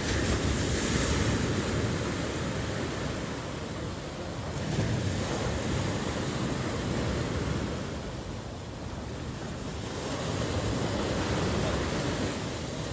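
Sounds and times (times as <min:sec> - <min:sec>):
ocean waves breaking: 0:00.0 - 0:12.9.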